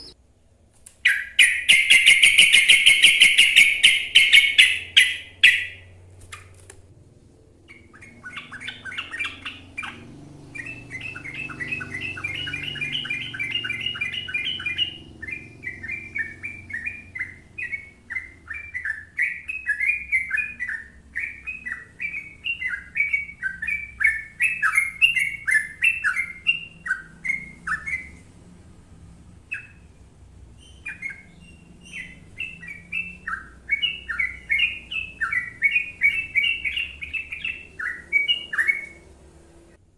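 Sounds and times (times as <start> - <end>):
bird singing chattering notes: 1.0 - 5.9, 7.7 - 28.2, 30.6 - 39.0.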